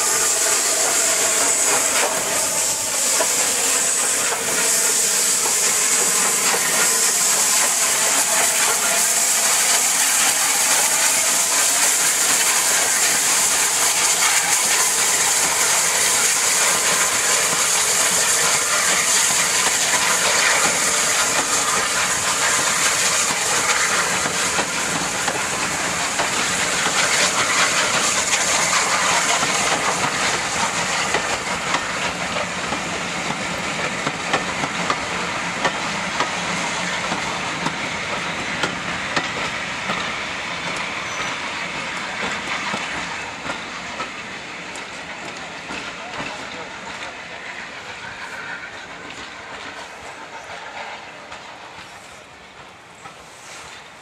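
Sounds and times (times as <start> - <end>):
steam locomotive hiss of escaping steam: 0.0 - 54.0.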